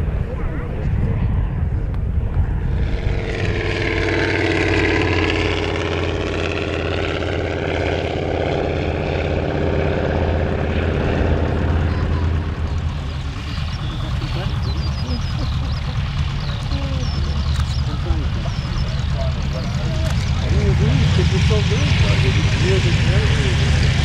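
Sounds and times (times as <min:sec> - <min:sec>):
high propeller whine: 0:00.0 - 0:24.0
propeller plane engines droning: 0:00.0 - 0:24.0.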